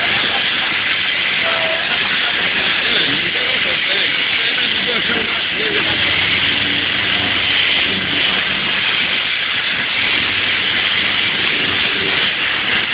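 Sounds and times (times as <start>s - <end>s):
thresher hissing rattle: 0.0s - 12.9s.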